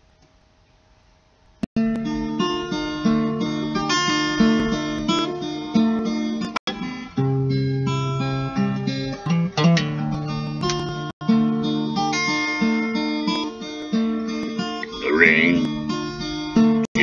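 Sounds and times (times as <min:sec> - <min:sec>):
finger-picked acoustic guitar: 0:01.8 - 0:17.0.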